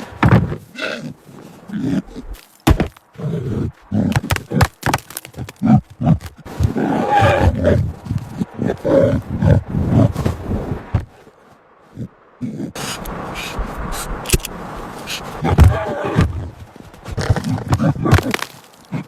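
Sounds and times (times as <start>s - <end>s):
tiger growling and roaring: 0.0s - 4.7s, 5.3s - 11.2s, 11.9s - 14.3s, 15.0s - 19.0s.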